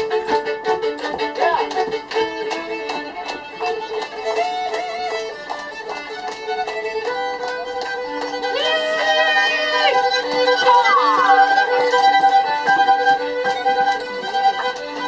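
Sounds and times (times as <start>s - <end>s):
fiddle playing a tune: 0.0s - 15.0s.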